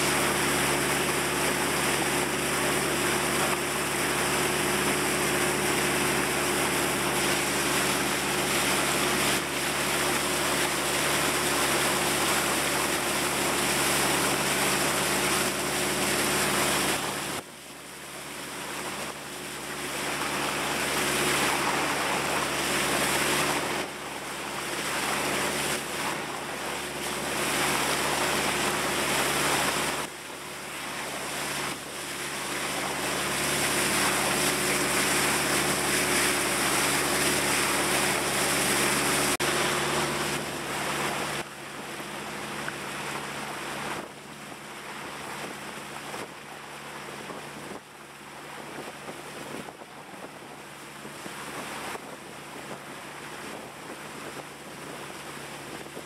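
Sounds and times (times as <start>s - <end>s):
boat engine hum: 0.0s - 56.0s
rush of water and wind: 0.0s - 56.0s.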